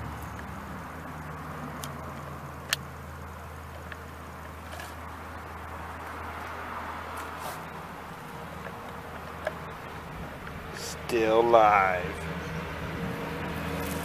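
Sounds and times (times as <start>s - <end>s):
toy car electric motor humming: 0.0s - 14.0s.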